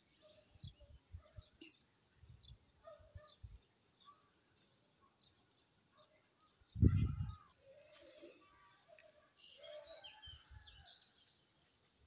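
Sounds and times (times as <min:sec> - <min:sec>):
faint bird chirps: 0:00.1 - 0:11.8.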